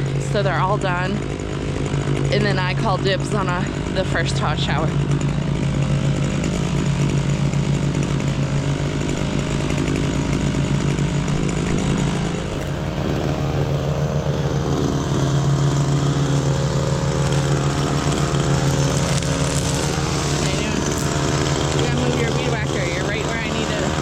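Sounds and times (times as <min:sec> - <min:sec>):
small petrol engine running: 0:00.0 - 0:24.0.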